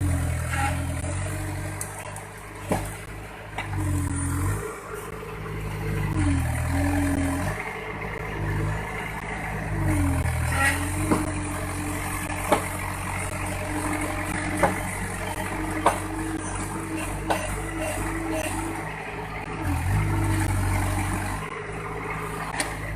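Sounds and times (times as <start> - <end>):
diesel engine revving: 0.0 - 22.9.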